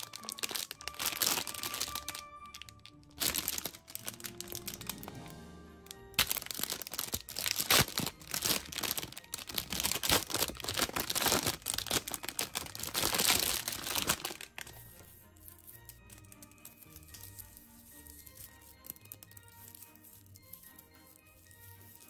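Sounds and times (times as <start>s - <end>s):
light background music: 0.0s - 22.0s
plastic wrapper crinkling: 0.0s - 22.0s.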